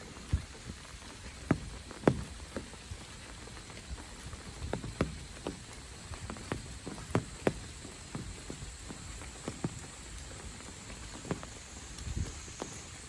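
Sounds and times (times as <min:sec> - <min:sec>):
heavy raindrops tapping: 0:00.0 - 0:13.0
hiss of rainfall: 0:00.0 - 0:13.0.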